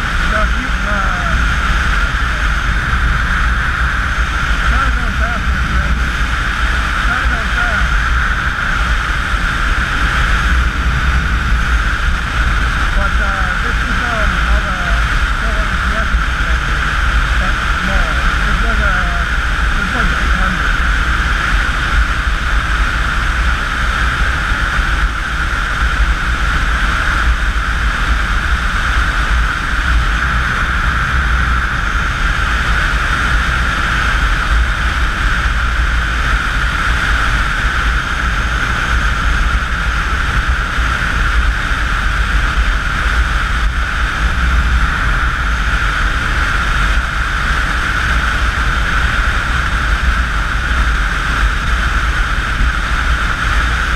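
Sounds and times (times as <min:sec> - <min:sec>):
wind rushing into microphone: 0:00.0 - 0:53.9.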